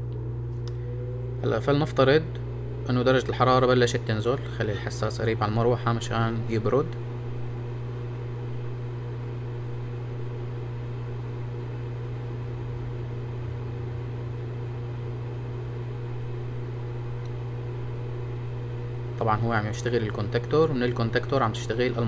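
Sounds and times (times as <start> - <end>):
cooling fan humming: 0.0 - 22.0.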